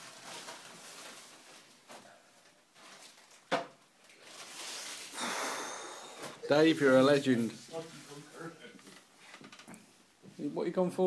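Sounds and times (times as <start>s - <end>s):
faint rustling and shuffling: 0.0s - 5.2s, 6.2s - 11.0s.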